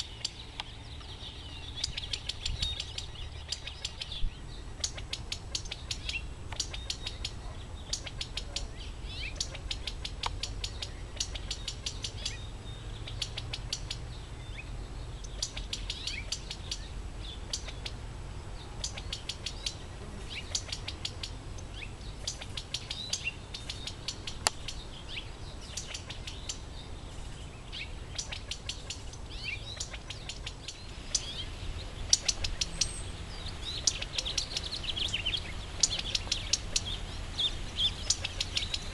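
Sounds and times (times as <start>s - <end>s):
quails ticking calls: 0.0s - 38.9s.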